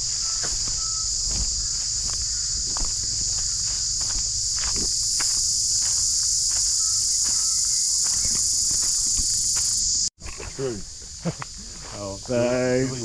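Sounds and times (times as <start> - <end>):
faint footsteps: 0.0 - 12.1
high-pitched insect chorus: 0.0 - 13.0.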